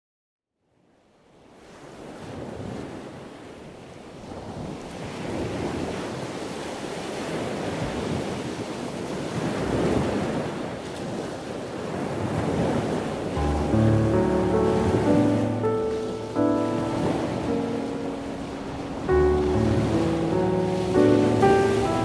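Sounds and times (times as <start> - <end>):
ocean surf washing in: 4.2 - 22.0.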